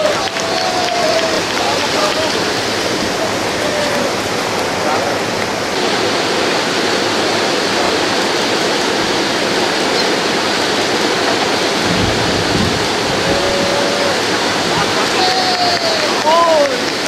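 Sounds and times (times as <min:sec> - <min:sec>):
white water rushing through a weir: 0:00.0 - 0:17.0.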